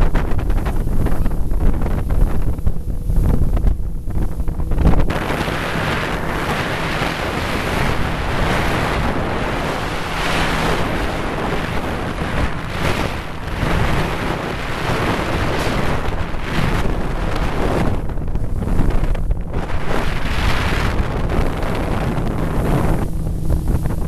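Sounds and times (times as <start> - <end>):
low engine drone: 0.0 - 24.0
water rushing past hull: 0.0 - 24.0
wind buffeting microphone: 0.0 - 24.0.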